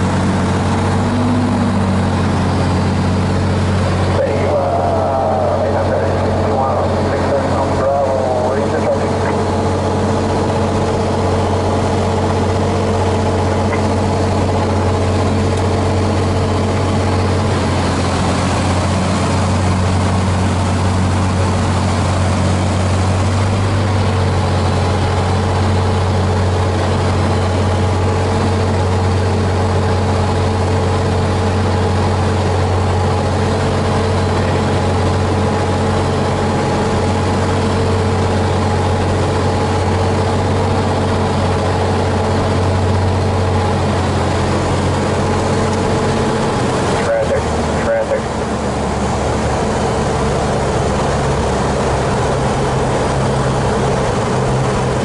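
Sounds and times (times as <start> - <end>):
propeller airplane engine drone: 0.0 - 55.0.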